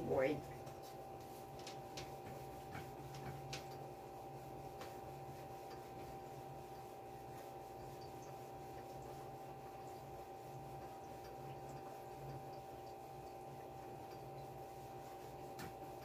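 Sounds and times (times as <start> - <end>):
iron rubbing over fabric: 0.0 - 11.2, 13.9 - 16.0
steady low hum: 0.0 - 16.0.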